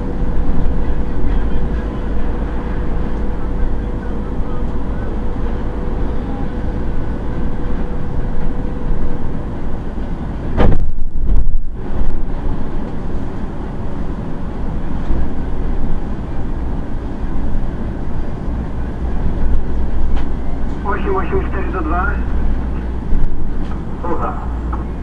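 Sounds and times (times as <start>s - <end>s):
bus engine and road rumble: 0.0s - 25.0s
heavy low rumble: 0.0s - 25.0s.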